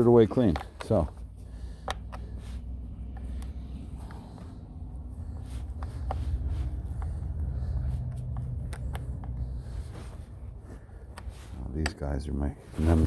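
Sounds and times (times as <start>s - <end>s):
low wind rumble: 1.4s - 13.0s.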